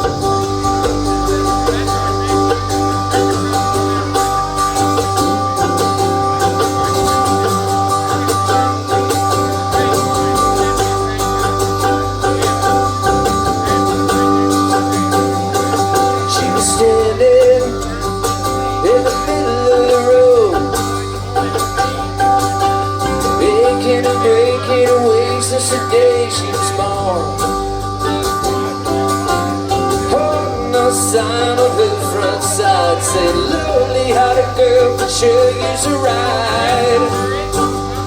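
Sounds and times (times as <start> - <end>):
country-rock band playing: 0.0 - 38.0
lead guitar bending notes: 0.0 - 38.0.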